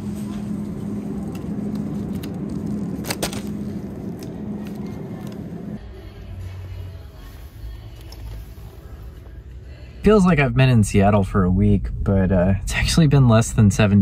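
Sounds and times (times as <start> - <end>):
store background noise: 0.0 - 11.4
steady hum: 0.0 - 14.0.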